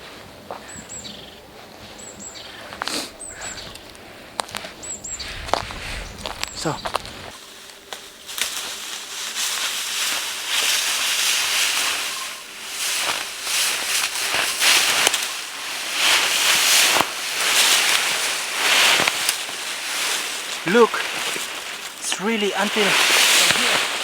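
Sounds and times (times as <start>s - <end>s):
footsteps crunching dry leaves: 2.8s - 24.0s.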